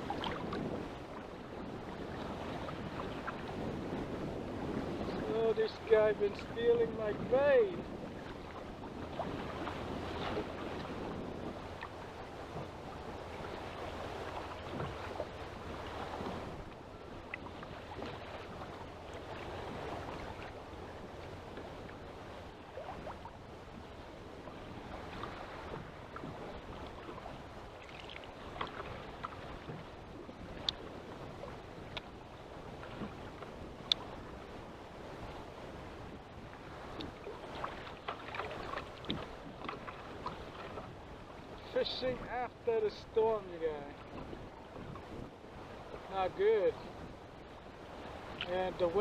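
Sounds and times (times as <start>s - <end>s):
waves sloshing against hull: 0.0s - 49.0s
wind noise: 0.0s - 49.0s.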